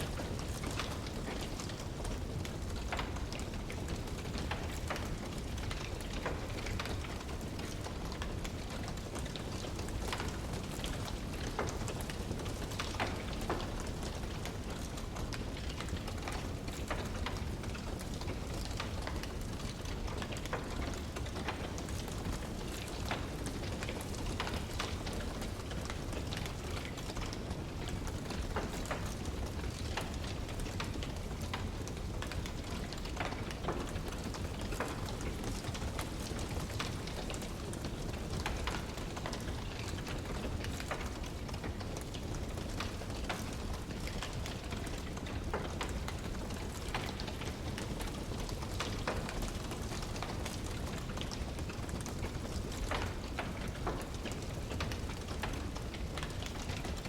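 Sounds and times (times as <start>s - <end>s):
low rumble of fire: 0.0s - 57.0s
wood fire crackling: 0.0s - 57.0s.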